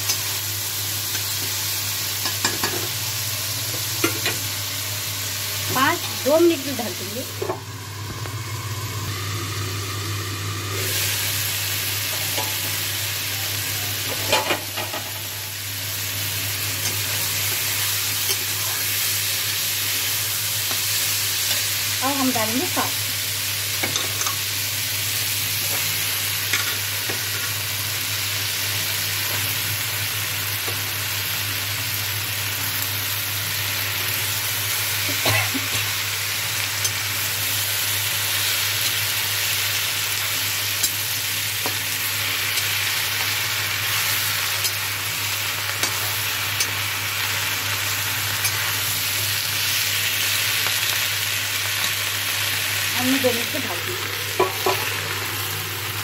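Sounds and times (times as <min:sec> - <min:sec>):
vegetables sizzling in wok: 0:00.0 - 0:56.0.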